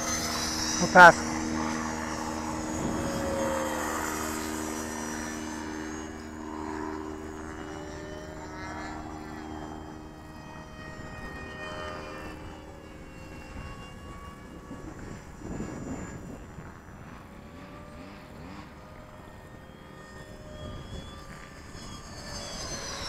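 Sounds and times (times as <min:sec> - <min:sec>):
model jet fan whining past: 0:00.0 - 0:23.0.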